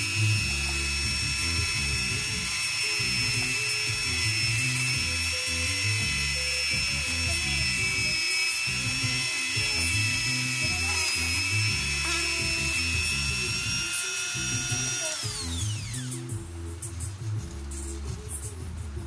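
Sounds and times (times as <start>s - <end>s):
rotary tool grinding whine: 0.0s - 18.9s
background music: 0.0s - 19.0s.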